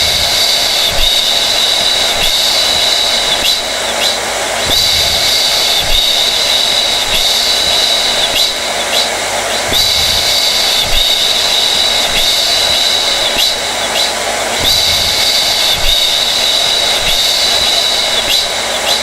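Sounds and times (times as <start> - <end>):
hair dryer running: 0.0 - 19.0.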